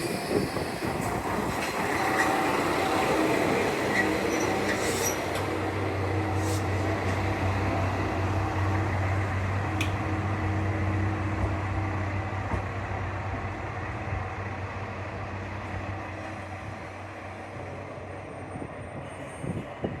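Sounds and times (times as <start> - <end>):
diesel railcar engine humming: 0.0 - 20.0.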